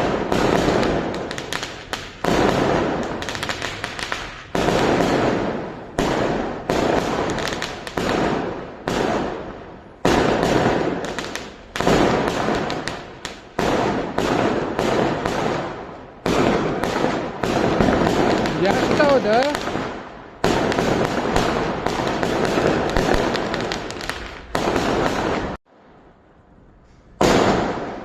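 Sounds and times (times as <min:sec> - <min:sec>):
fireworks banging: 0:00.0 - 0:25.6, 0:27.1 - 0:28.0.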